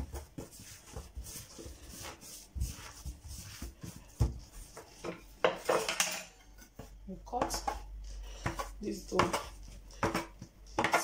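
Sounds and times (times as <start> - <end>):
hands kneading dough: 0.0 - 5.7, 6.6 - 11.0.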